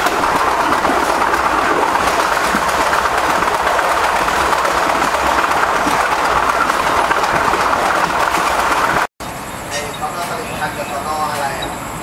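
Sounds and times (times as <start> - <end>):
train wheels on rails: 0.0 - 9.1, 9.7 - 12.0.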